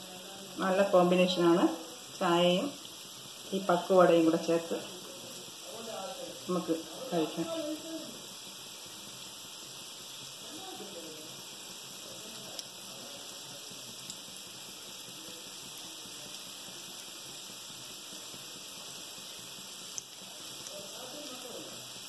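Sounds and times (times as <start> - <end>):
batter sizzling in hot oil: 0.0 - 22.0.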